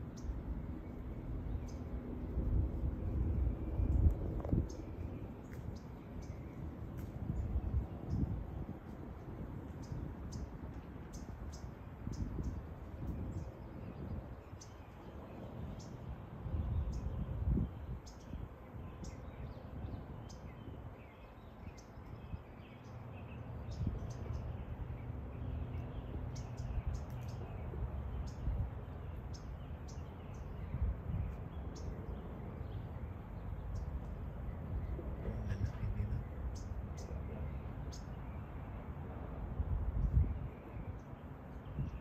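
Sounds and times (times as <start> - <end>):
birds chirping: 0.0 - 42.0
steady low rumble: 0.0 - 42.0.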